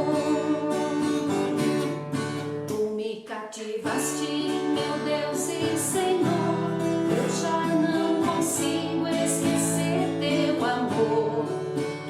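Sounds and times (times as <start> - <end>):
strummed acoustic guitar: 0.0 - 2.9, 3.8 - 12.0.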